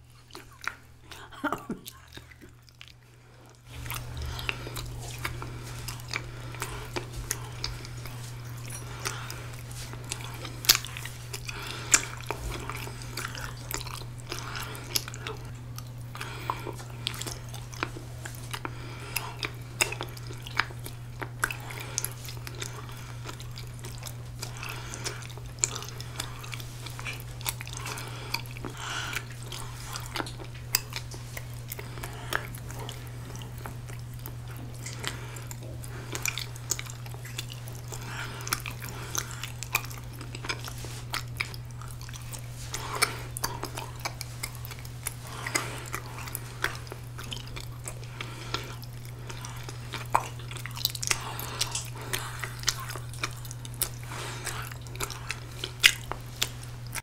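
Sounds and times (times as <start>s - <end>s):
close chewing mouth sounds: 0.0s - 57.0s
steady low hum: 0.0s - 57.0s.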